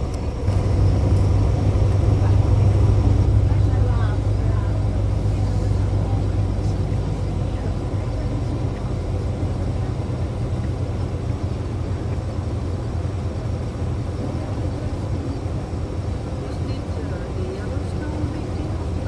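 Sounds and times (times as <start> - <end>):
car cabin road noise: 0.0 - 19.0.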